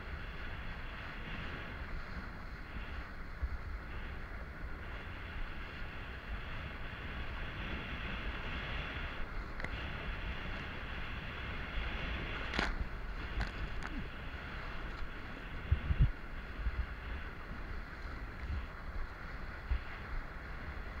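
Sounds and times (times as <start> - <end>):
water rushing under board: 0.0 - 21.0
wind buffeting microphone: 0.0 - 21.0.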